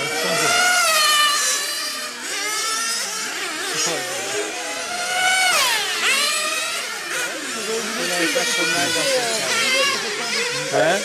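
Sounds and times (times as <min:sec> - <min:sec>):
rc car engines whining: 0:00.0 - 0:11.0
rc car passing close: 0:00.0 - 0:11.0.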